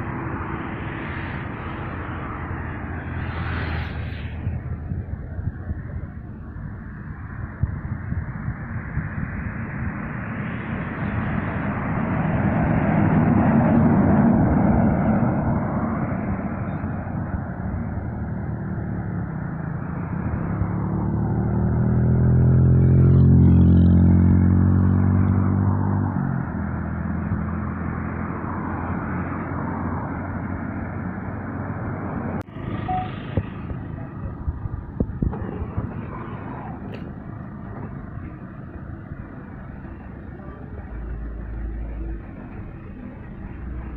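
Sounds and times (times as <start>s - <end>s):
heavy trucks passing: 0.0s - 7.6s, 8.2s - 43.9s
light traffic noise: 0.0s - 43.9s.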